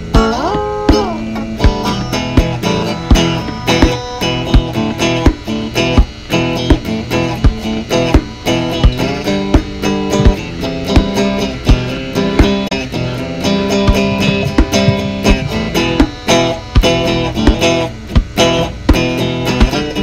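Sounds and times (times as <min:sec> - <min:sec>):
electric guitar strumming chords: 0:00.0 - 0:20.0
steady rock beat: 0:00.0 - 0:20.0.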